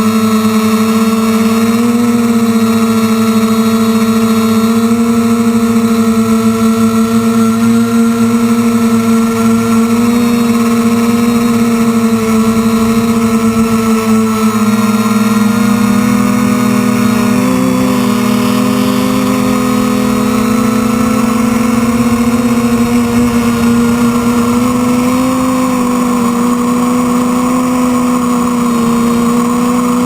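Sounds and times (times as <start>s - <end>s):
quadcopter propellers buzzing: 0.0s - 30.0s.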